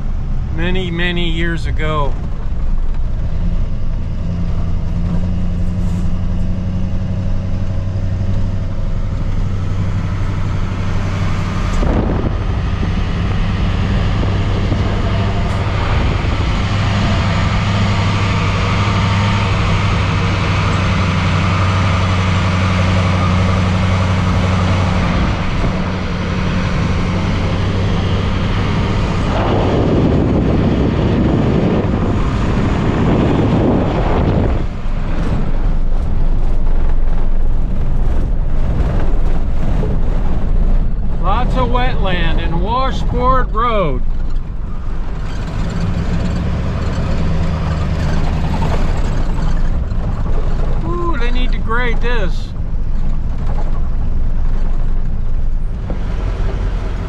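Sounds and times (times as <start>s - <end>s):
truck engine drone: 0.0s - 57.0s
tyre and road noise: 0.0s - 57.0s.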